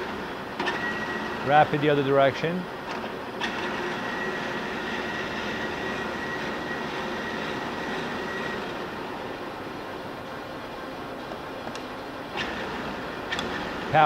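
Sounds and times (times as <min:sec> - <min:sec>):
high whine of carriage traverse: 0:00.0 - 0:02.0, 0:02.8 - 0:10.1, 0:11.1 - 0:14.0
lathe running: 0:00.0 - 0:14.0.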